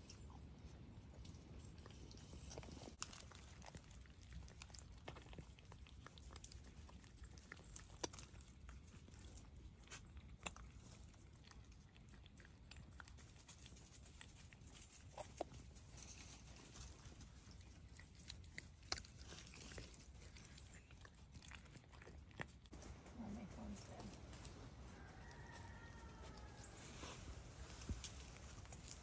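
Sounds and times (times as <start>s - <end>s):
foxes chewing and crunching food: 0.0s - 29.0s.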